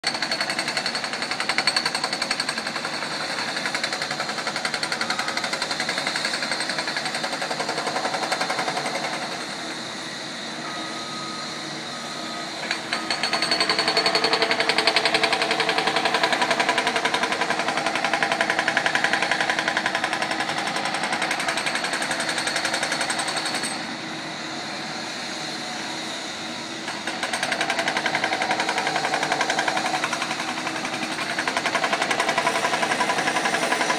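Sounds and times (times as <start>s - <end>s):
hydraulic breaker hammering pavement: 0.0s - 9.7s, 12.4s - 23.9s, 26.8s - 33.9s.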